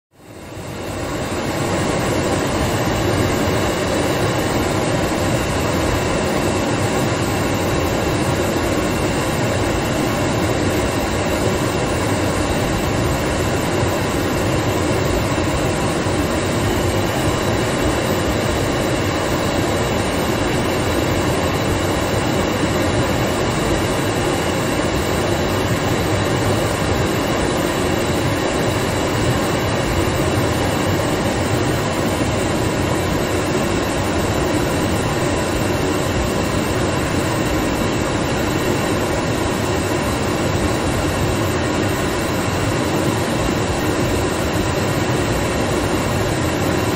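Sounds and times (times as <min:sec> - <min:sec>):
heater fan blowing air: 0:00.2 - 0:46.9.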